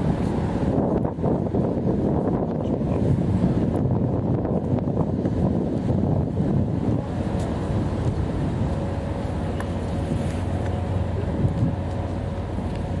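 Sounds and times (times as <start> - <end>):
low machinery hum: 0.0 - 13.0
wind buffeting microphone: 0.0 - 13.0.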